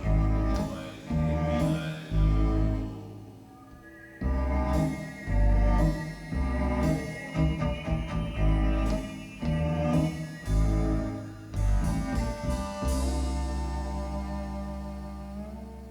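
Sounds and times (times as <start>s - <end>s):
recorded instrumental music: 0.0s - 15.9s.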